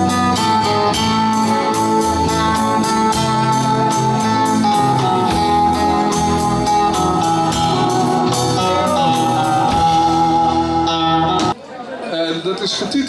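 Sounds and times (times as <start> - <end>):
bass: 0.0 - 11.6
electric guitar lead notes: 0.0 - 11.6
steady drum beat: 0.0 - 11.6.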